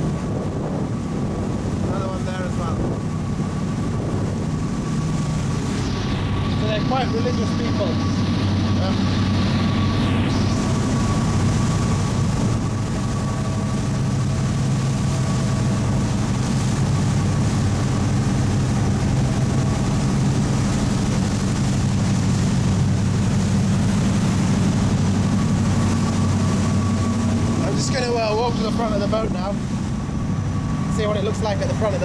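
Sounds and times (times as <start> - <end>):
ferry engine droning: 0.0 - 32.0
water churning in wake: 0.0 - 32.0.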